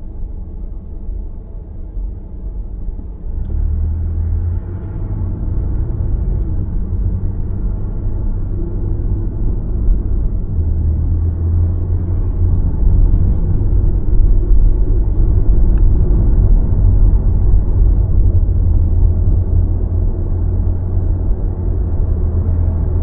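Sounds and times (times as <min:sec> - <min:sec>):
car tyres rumbling on road: 0:00.0 - 0:23.0.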